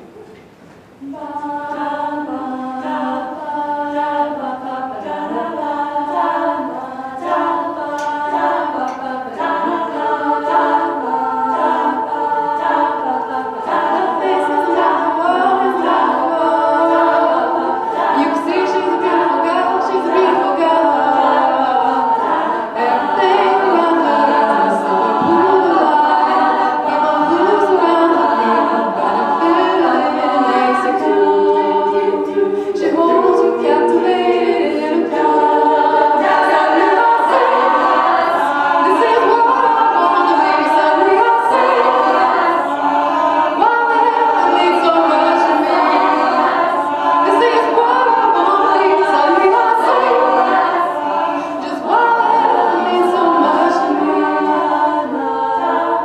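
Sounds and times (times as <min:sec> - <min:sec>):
women singing a cappella: 0:00.8 - 0:56.0.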